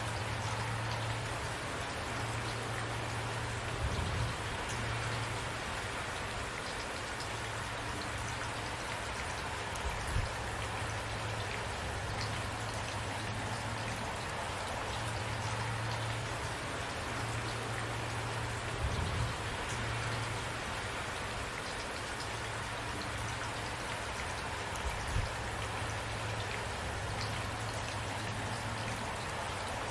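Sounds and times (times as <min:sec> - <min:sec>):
rain pattering: 0:00.0 - 0:29.9.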